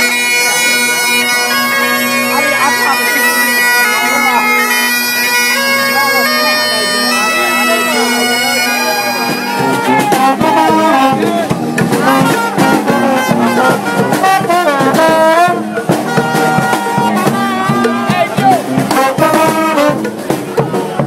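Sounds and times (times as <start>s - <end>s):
brass band playing: 0.0s - 21.0s
steady drum beat: 0.0s - 21.0s.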